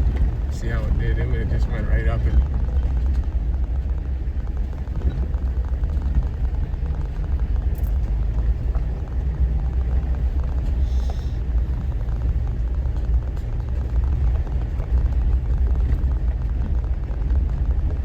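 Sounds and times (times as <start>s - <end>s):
vehicle engine and tyres rumbling: 0.0s - 18.0s.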